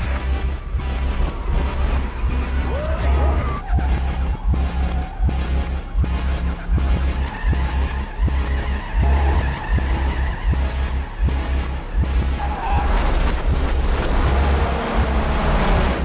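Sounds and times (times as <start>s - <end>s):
pulsing deep bass: 0.0s - 16.0s
vehicle engine and tyre noise: 0.0s - 16.0s.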